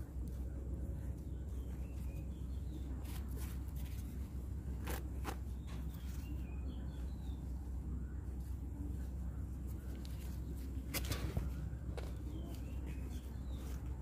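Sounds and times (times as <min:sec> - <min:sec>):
low steady rumble: 0:00.0 - 0:14.0
potting soil rustling and crunching: 0:00.0 - 0:14.0.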